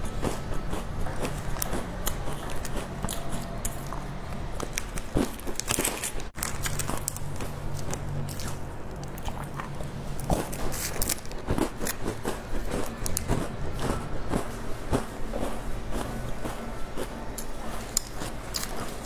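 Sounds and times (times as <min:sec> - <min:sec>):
chewing crisp biscuits: 0:00.0 - 0:19.0.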